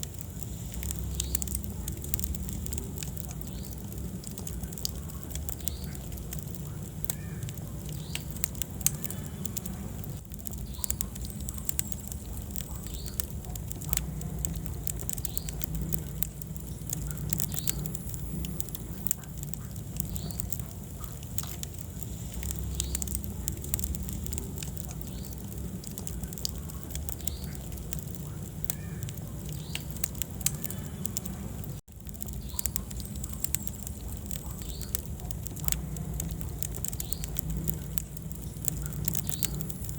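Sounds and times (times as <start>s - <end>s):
fire low rumble: 0.0s - 39.9s
wood fire crackling and popping: 0.0s - 39.9s.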